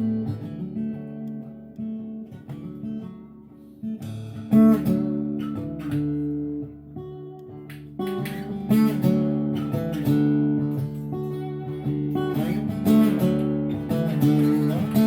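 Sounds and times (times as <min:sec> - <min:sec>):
picked guitar notes: 0:00.0 - 0:15.0
strummed guitar chords: 0:00.0 - 0:15.0.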